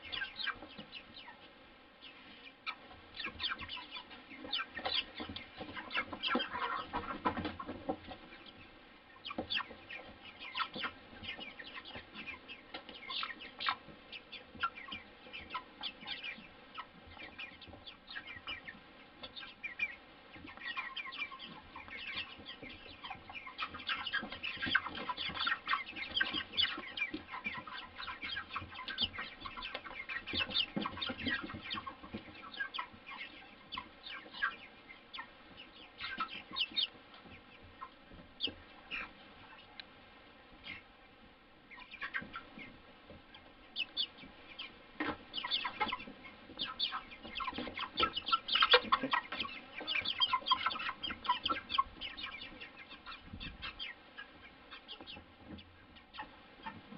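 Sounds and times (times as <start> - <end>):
chickens calling: 0.0 - 56.9.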